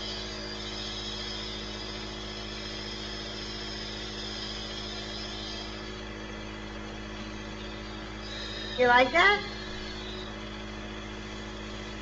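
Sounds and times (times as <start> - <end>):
air compressor humming: 0.0 - 12.0
air hissing: 0.0 - 12.0.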